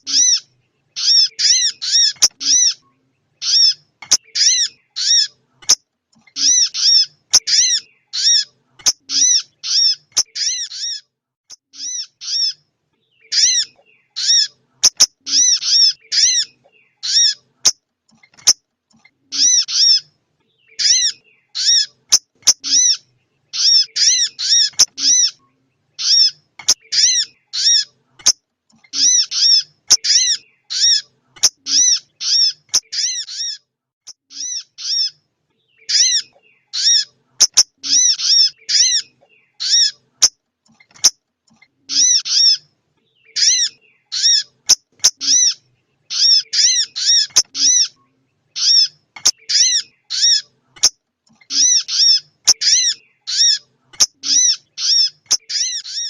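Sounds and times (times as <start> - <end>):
sunbird chip calls: 0.0 - 56.0.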